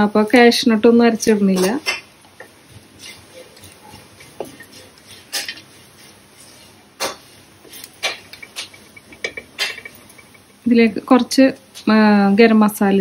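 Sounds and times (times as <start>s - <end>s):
spoon scraping and knocking pan: 1.2s - 11.8s.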